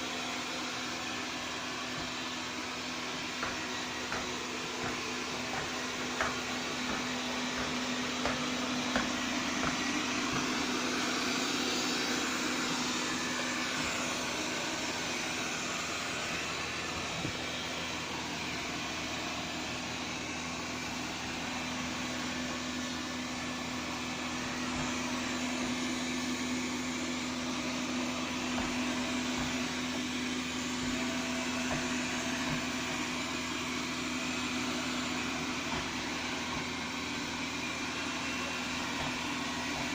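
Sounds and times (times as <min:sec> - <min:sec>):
robot vacuum humming: 0:00.0 - 0:39.9.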